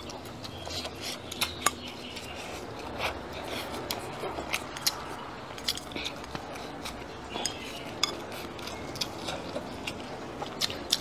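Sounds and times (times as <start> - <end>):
chewing food: 0.0 - 11.0.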